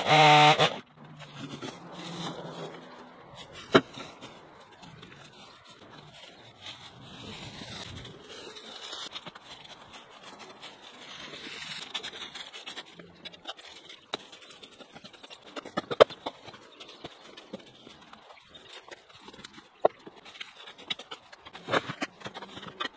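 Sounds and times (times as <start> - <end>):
branches rustling and scraping: 0.0 - 22.9.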